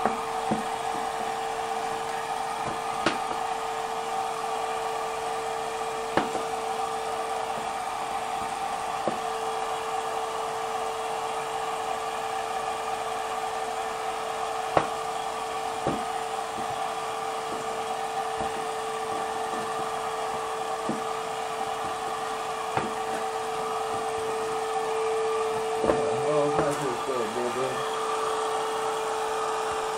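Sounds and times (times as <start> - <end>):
machine hum with whine: 0.0 - 29.9.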